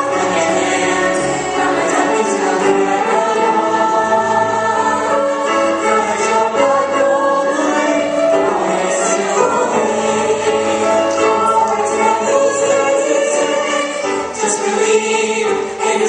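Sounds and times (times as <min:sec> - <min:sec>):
chorus singing sustained notes: 0:00.0 - 0:16.0.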